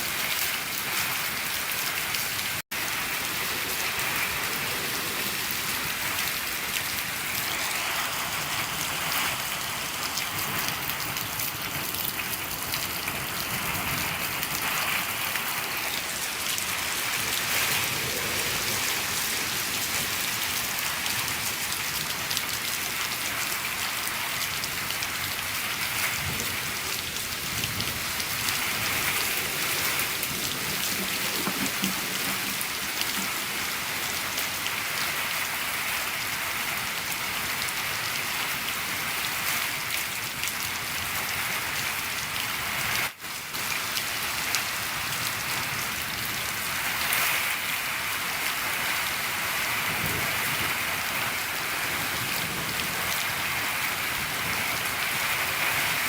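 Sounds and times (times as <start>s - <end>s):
rain on a shed roof: 0.0s - 56.0s.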